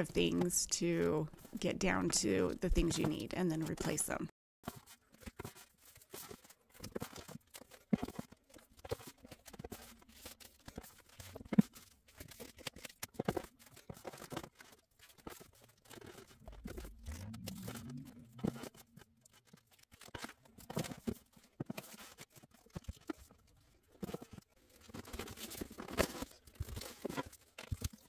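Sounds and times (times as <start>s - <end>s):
paper rustling and shuffling: 4.6s - 28.0s.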